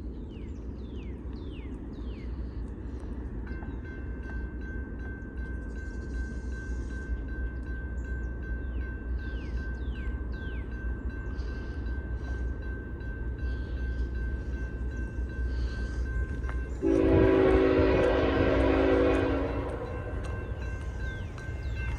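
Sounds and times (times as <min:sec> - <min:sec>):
freight train rumbling past: 0:00.0 - 0:21.9
crossing bell ringing: 0:02.9 - 0:21.9.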